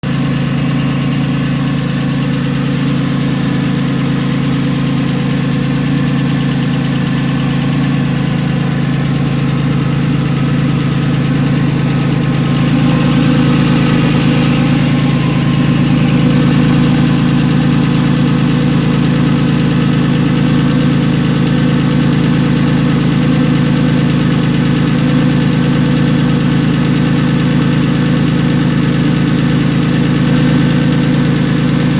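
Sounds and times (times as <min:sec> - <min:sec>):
car engine idling with ticking: 0:00.0 - 0:31.9.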